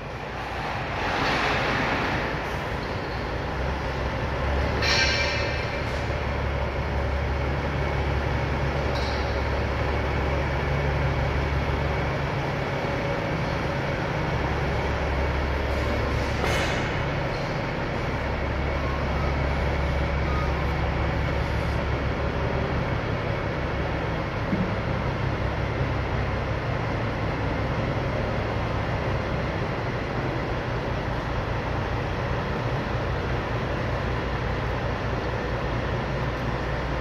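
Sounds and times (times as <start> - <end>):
low mechanical rumble and hum: 0.0 - 37.0.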